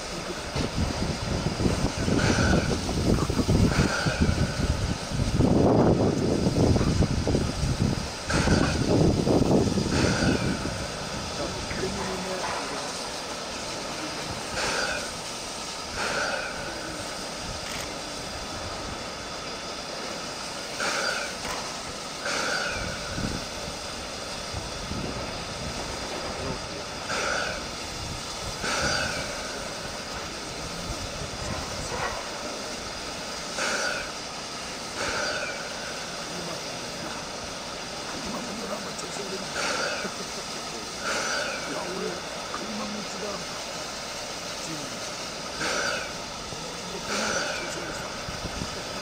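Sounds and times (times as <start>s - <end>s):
sharp steam puffs: 0.0s - 49.0s
steam hiss: 0.0s - 49.0s.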